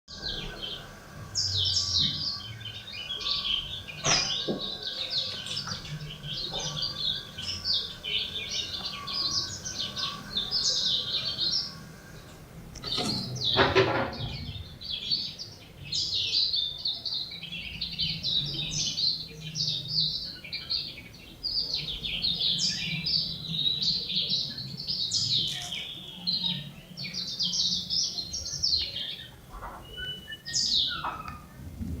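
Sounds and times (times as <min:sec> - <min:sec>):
young songbird twittering: 0:00.1 - 0:31.8.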